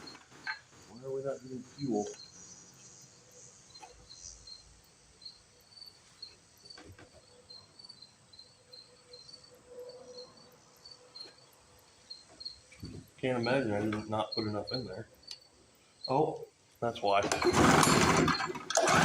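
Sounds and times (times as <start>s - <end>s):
cricket chirping: 0.0s - 18.7s.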